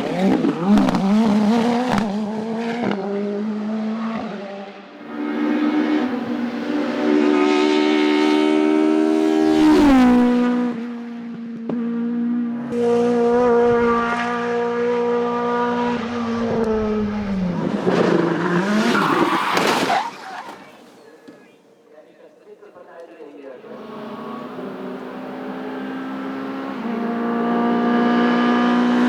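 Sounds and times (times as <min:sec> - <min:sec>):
race car engine at high revs: 0:00.0 - 0:19.9, 0:23.6 - 0:29.0.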